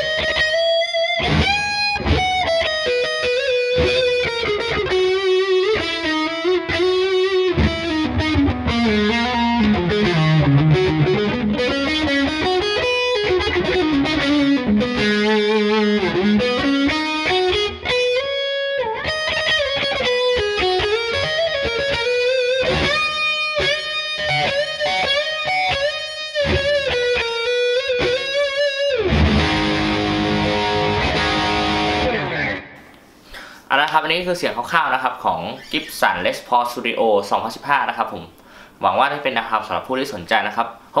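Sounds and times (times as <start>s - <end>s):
overdriven electric guitar: 0.0s - 33.6s.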